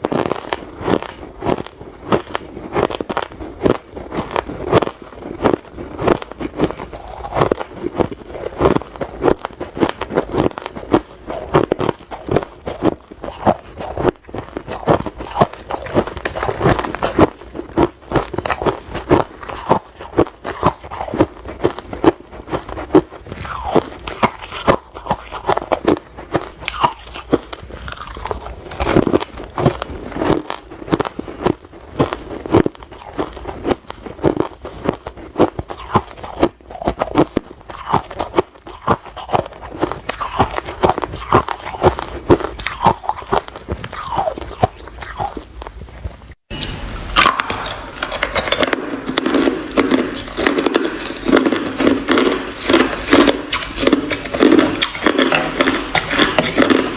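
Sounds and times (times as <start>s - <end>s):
ice crunching being chewed: 0.0s - 46.4s, 47.2s - 56.9s.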